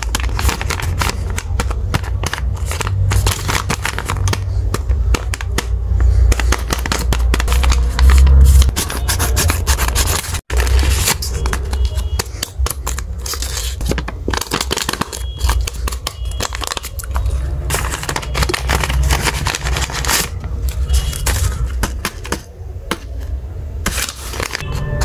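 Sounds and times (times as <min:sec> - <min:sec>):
paper rustling and crinkling: 0:00.0 - 0:24.9.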